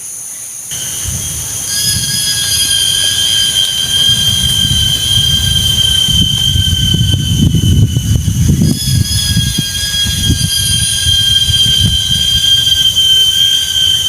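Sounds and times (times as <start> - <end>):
gusting wind: 0.7 - 14.0
high-pitched whine: 0.7 - 14.0.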